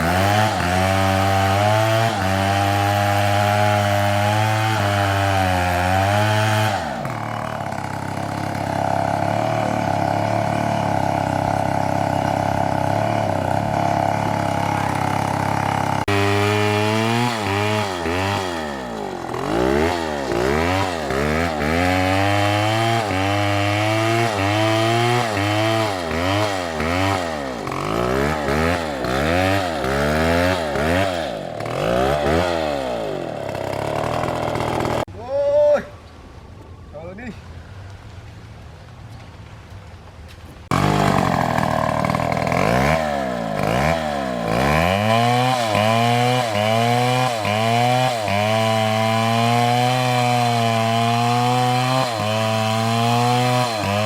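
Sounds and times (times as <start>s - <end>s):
chainsaw engine revving: 0.0s - 35.1s, 40.7s - 54.0s.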